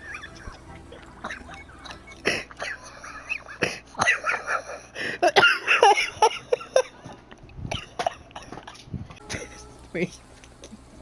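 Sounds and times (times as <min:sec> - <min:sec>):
person laughing hysterically: 0:00.0 - 0:07.1, 0:07.7 - 0:09.6.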